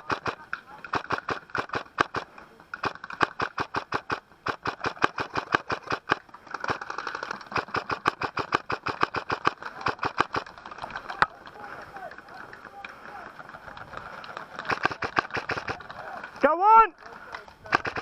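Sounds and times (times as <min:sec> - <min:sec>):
airsoft guns firing: 0:00.0 - 0:18.0.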